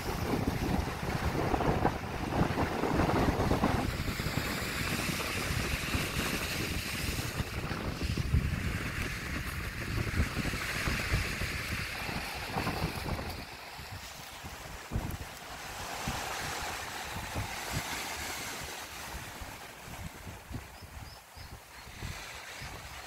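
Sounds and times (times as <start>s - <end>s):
small waves breaking on rocks: 0.0s - 20.7s
wind buffeting microphone: 0.0s - 23.0s.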